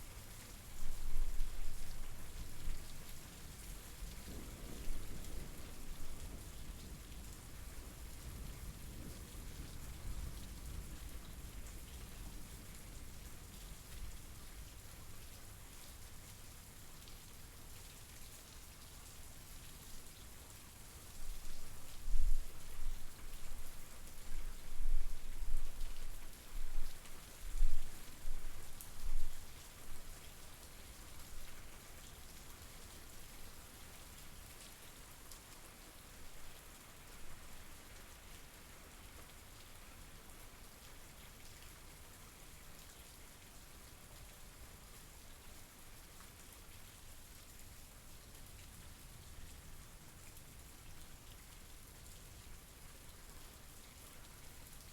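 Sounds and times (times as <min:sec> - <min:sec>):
rain pattering: 0:00.1 - 0:54.9.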